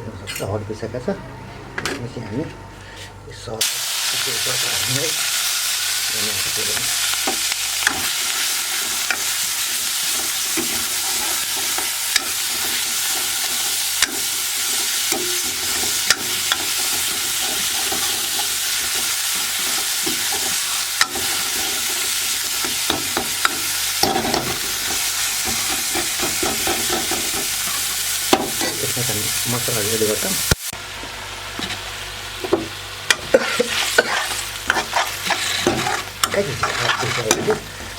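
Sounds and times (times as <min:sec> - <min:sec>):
hot oil sizzling in a frying pan: 0:03.6 - 0:37.9.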